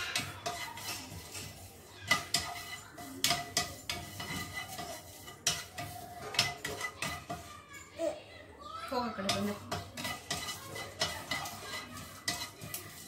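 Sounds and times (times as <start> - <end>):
wooden spatula scraping a pan: 0.0 - 8.0, 8.9 - 13.0.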